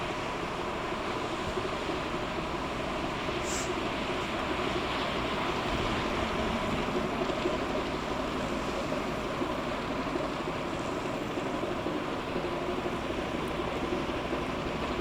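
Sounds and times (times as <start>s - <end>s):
ship diesel engine drone: 0.0s - 15.0s
water rushing along hull: 0.0s - 15.0s.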